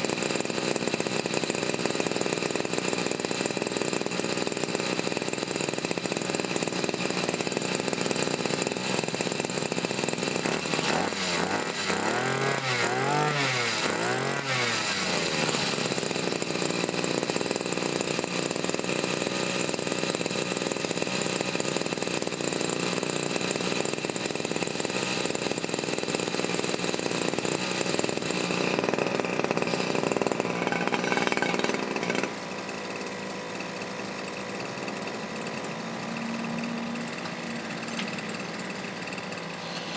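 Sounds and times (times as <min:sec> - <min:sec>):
brush cutter engine revving: 0:00.0 - 0:39.9.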